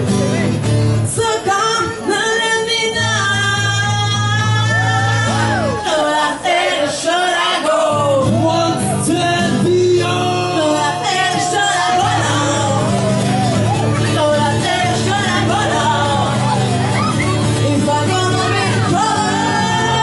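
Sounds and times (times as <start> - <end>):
person singing: 1.2 - 20.0.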